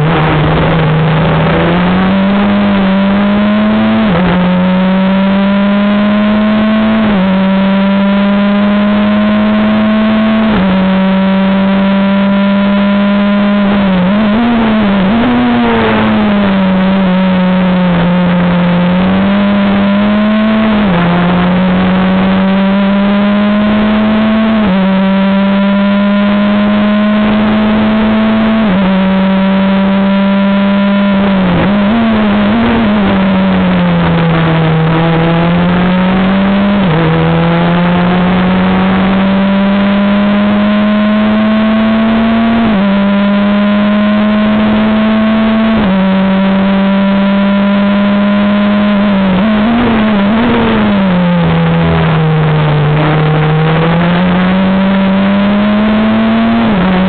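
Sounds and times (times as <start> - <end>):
racing car engine revving: 0.0 - 57.0
wind and road noise: 0.0 - 57.0.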